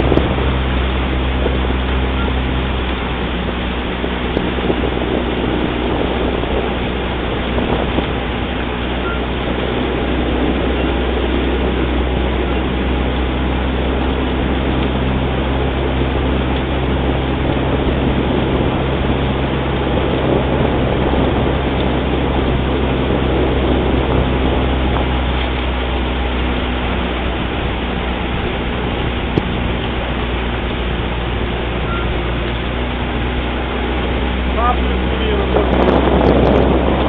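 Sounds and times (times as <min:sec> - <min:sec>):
motorboat engine running: 0:00.0 - 0:37.0
water noise: 0:00.0 - 0:37.0
wind: 0:00.0 - 0:37.0.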